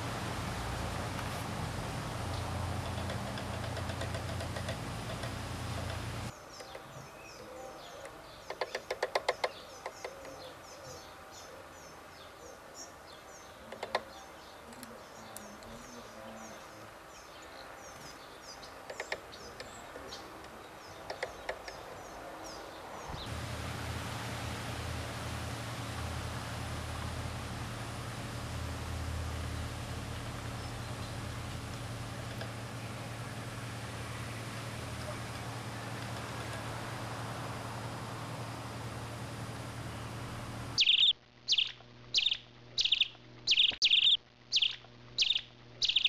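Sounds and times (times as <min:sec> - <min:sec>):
small birds chirping: 0:00.0 - 0:23.6, 0:24.3 - 0:46.0
low outdoor hum: 0:00.0 - 0:46.0.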